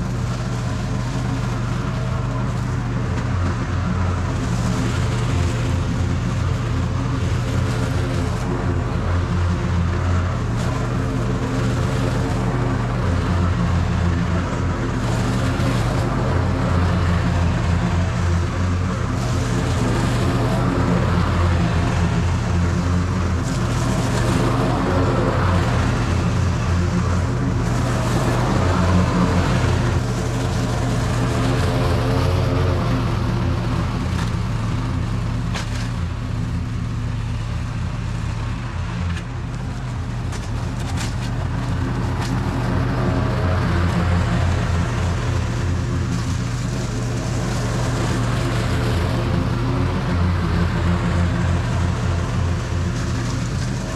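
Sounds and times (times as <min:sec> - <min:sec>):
mower engine running: 0:00.0 - 0:53.9.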